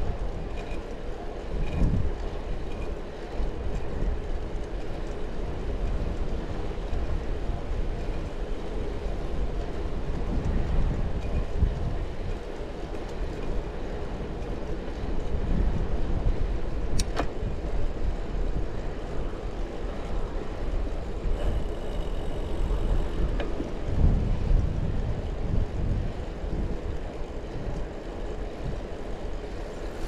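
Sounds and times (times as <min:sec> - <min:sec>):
bicycle tyres on path: 0:00.0 - 0:30.0
wind on microphone: 0:01.4 - 0:30.0.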